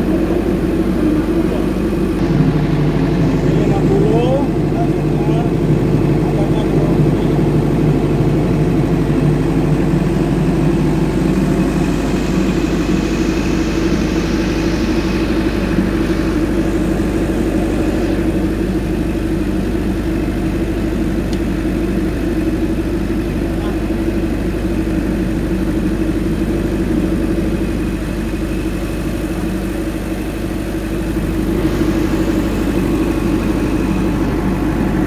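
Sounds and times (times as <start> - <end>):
diesel generator running: 0.0 - 35.0.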